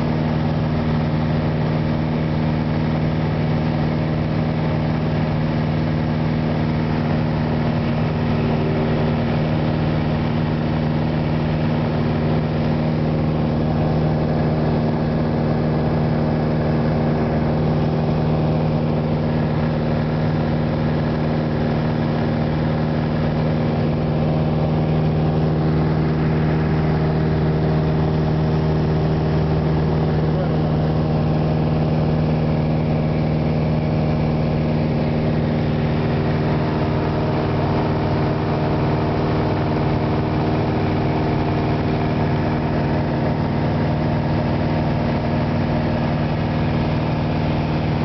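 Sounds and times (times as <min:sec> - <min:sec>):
light aircraft engine drone: 0:00.0 - 0:48.0.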